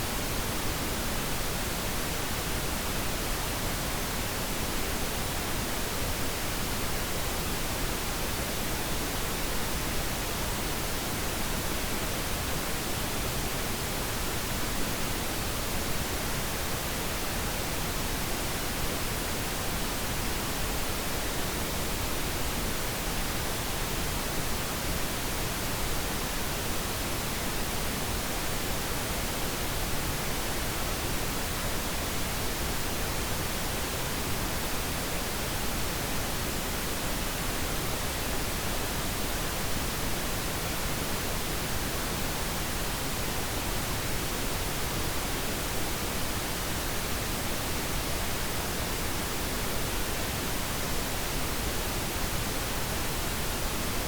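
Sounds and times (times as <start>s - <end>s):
steady pink noise hiss: 0.0s - 54.0s.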